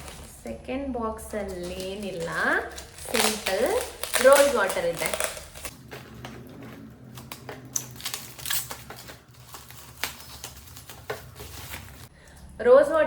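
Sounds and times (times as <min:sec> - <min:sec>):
packaging rustling and crinkling: 0:00.0 - 0:00.5, 0:01.3 - 0:12.1.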